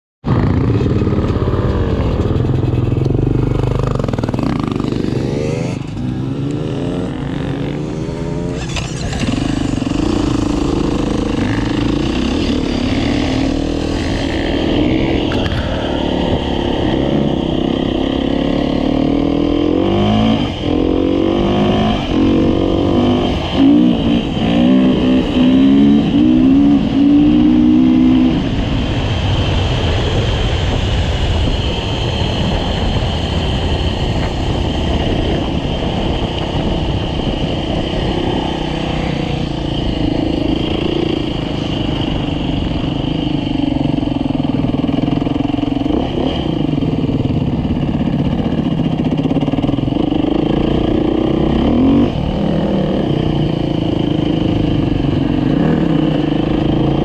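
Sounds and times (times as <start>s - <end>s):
engine revving: 0.2s - 57.0s.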